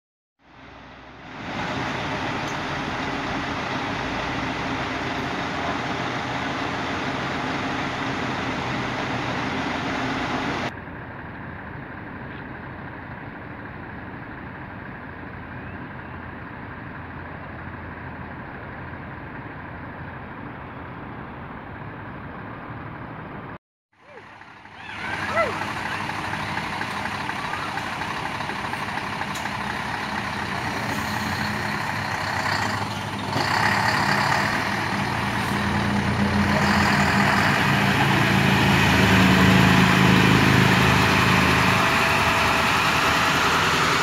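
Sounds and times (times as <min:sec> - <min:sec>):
diesel truck engines idling: 0:00.5 - 0:44.0.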